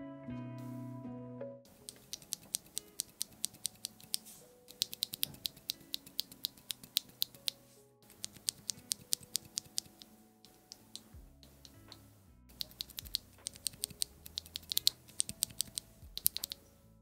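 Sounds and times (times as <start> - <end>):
keyboard switch clicking: 1.8 - 16.6.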